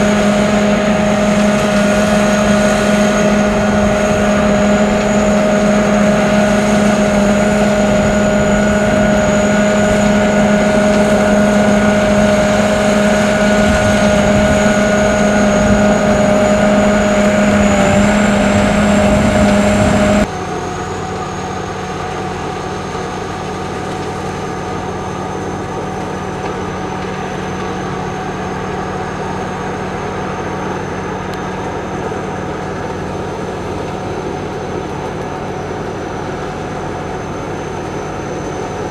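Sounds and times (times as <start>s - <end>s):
combine harvester running with whine: 0.0s - 38.9s.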